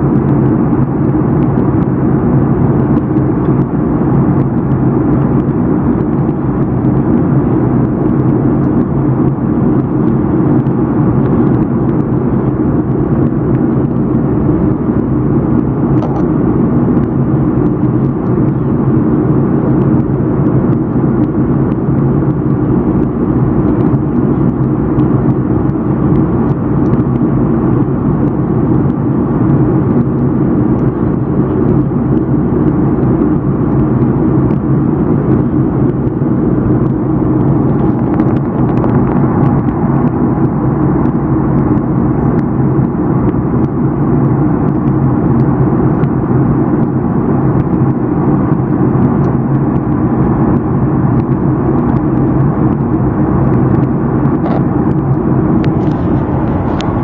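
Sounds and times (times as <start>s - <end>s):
jet airliner cabin noise: 0.0s - 57.0s.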